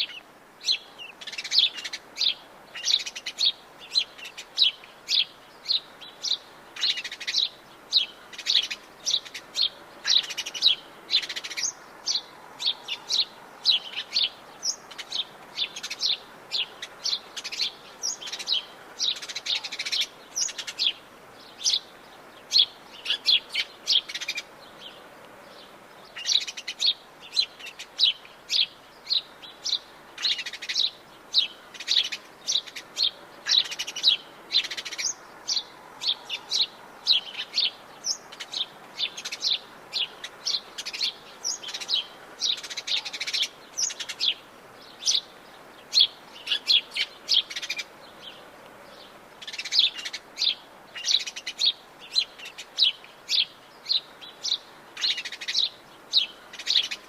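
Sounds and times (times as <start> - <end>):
faint background hiss: 0.0 - 57.0
forest birds chirping: 0.0 - 57.0.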